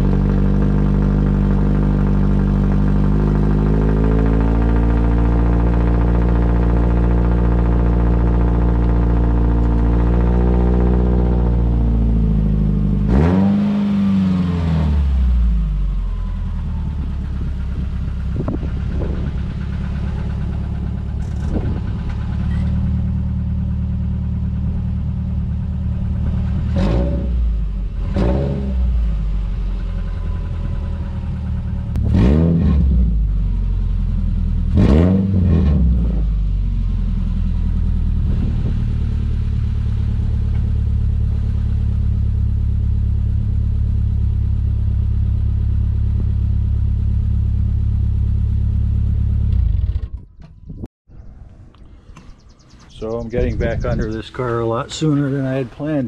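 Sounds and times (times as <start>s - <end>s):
loud exhaust note: 0.0s - 52.4s
car engine idling and revving: 0.0s - 56.0s.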